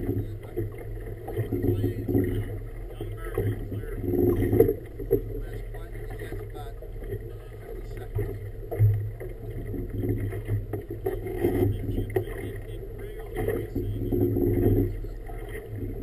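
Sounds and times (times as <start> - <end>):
boat engine hum: 0.0 - 16.0
water slapping against hull: 0.0 - 16.0.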